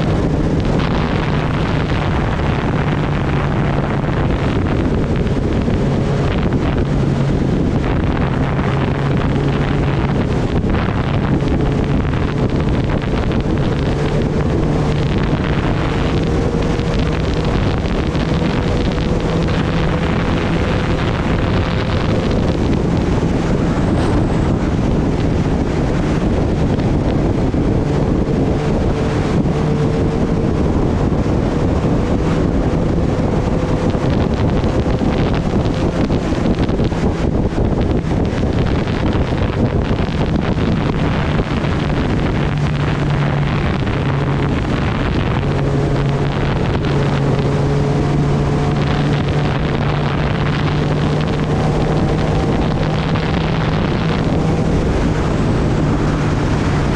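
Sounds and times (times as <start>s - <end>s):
motorcycle engine humming: 0.0s - 56.9s
wind rush on microphone: 0.0s - 56.9s.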